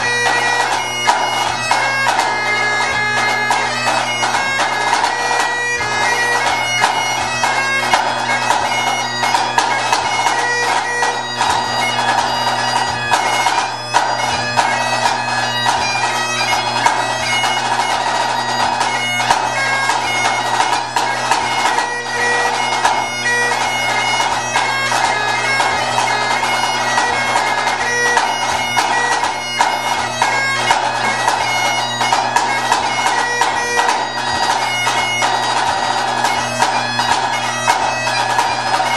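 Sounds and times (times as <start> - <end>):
bagpipes playing a tune: 0.0 - 38.9.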